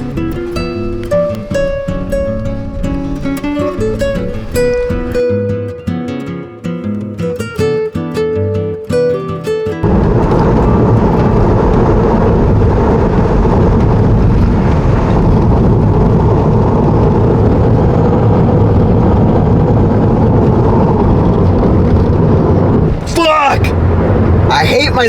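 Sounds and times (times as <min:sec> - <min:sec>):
wind and road noise in car: 0:00.0 - 0:05.4, 0:09.8 - 0:25.0.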